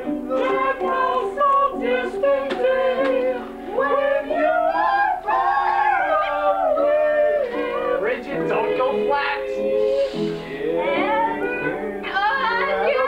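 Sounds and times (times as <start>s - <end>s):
people singing: 0.0s - 13.0s
upright piano playing: 0.0s - 13.0s.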